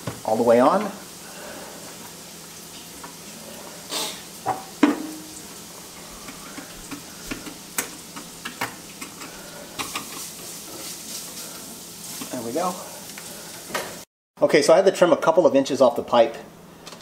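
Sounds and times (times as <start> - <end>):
steady hiss: 0.2 - 14.1.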